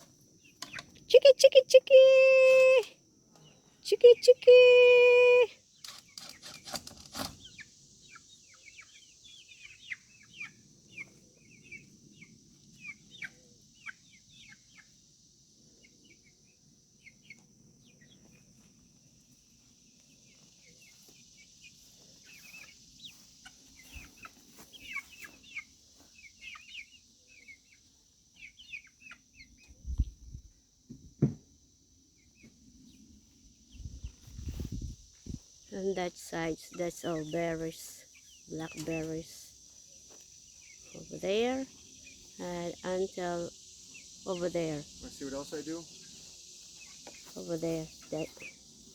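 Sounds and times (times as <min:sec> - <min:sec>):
chickens clucking and peeping: 0:00.0 - 0:01.3, 0:07.3 - 0:30.2, 0:32.1 - 0:48.9.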